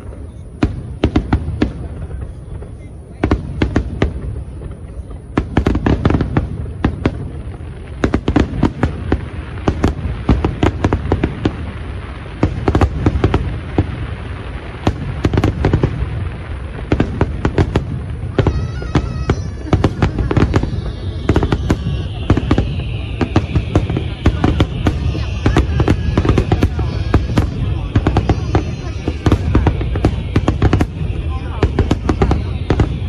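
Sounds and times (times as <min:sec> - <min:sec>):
firework bangs and crackles: 0:00.0 - 0:33.0
low rumble of booms: 0:00.0 - 0:33.0.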